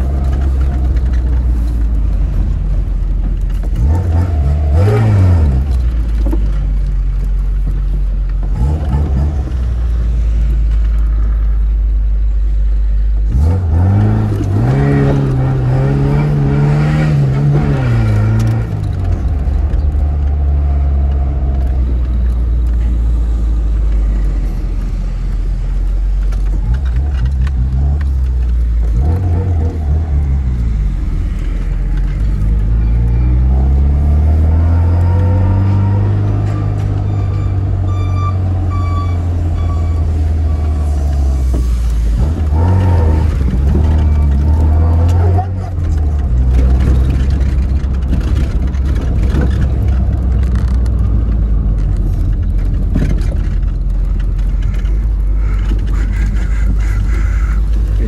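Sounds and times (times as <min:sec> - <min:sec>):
car engine revving: 0:00.0 - 0:11.5, 0:12.8 - 0:58.0.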